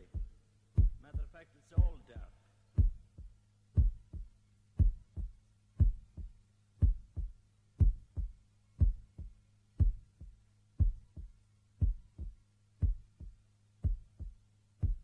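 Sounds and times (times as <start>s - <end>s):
faint low hum: 0.0s - 15.0s
heartbeat thumps: 0.0s - 15.0s.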